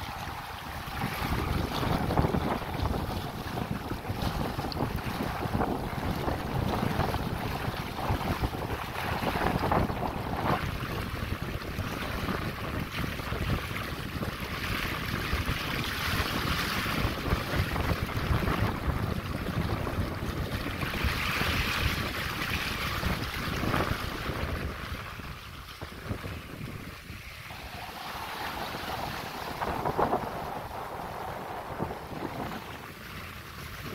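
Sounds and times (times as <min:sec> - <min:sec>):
water rushing along a hull: 0:00.0 - 0:33.9
wind buffeting the microphone: 0:00.0 - 0:33.9.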